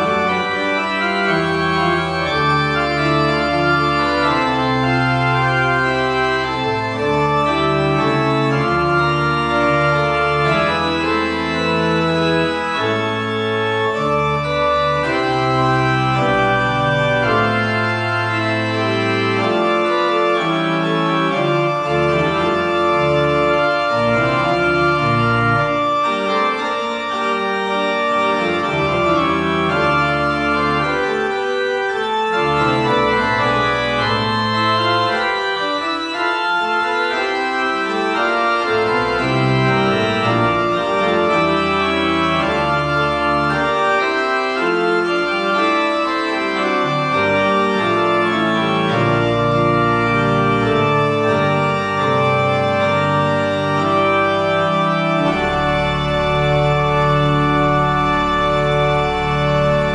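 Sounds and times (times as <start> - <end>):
church pipe organ chords: 0.0 - 59.9.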